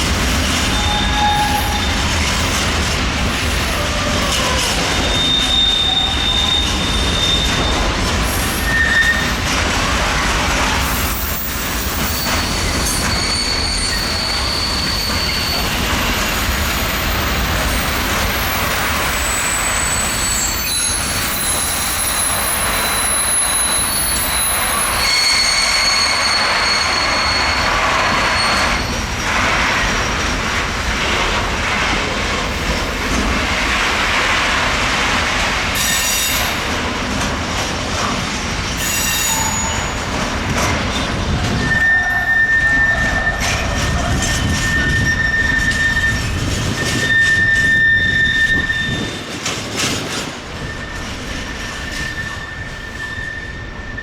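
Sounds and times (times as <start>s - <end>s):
train rolling rumble: 0.0s - 54.0s
train wheels squealing on rails: 0.0s - 54.0s.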